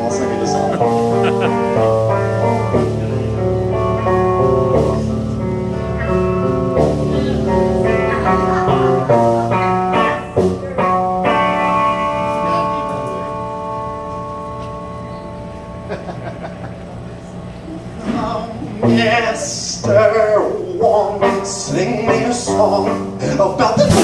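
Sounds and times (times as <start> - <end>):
electric guitar strumming chords: 0.0 - 24.0.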